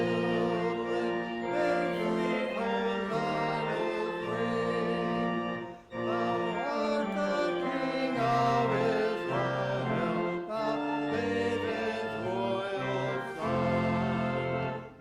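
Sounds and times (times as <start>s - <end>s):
congregation singing a hymn: 0.0s - 15.0s
organ chords: 0.0s - 15.0s.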